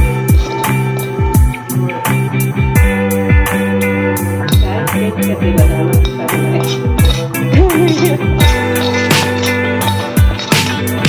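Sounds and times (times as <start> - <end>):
electronic music with bass drum: 0.0 - 11.0.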